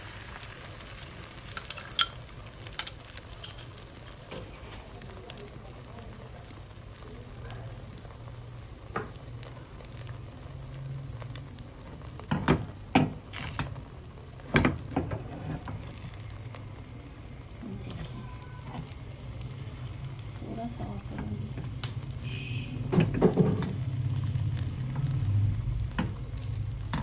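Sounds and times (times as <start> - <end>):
egg sizzling in a pan: 0.0 - 27.0.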